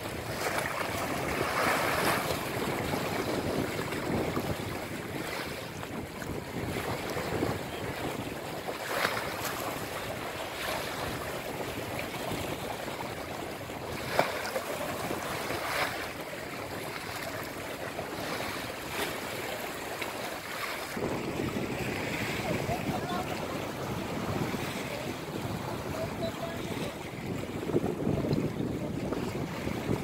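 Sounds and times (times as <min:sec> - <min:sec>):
water lapping at shore: 0:00.0 - 0:30.0
water slapping: 0:00.0 - 0:30.0
wind on microphone: 0:00.0 - 0:30.0.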